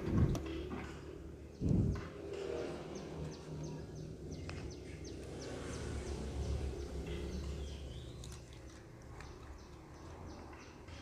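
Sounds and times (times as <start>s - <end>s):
small bird chirping: 1.4s - 11.0s.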